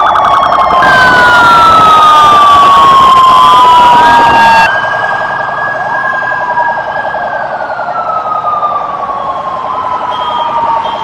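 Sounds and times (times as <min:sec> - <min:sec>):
rapid pulsing siren: 0:00.0 - 0:11.0
wailing sirens: 0:00.0 - 0:11.0.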